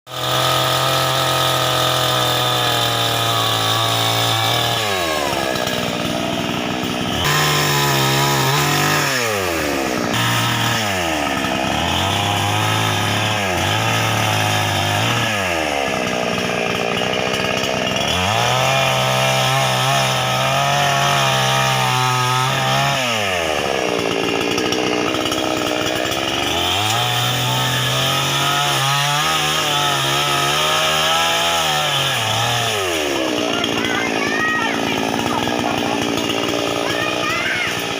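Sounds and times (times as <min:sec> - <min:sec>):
brush cutter cutting grass: 0:00.1 - 0:37.9.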